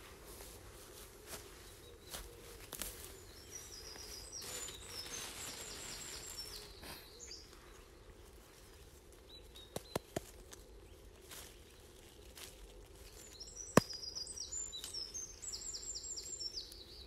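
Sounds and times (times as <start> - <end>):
grass rustling: 0.0 - 16.5
songbird singing: 0.0 - 17.0.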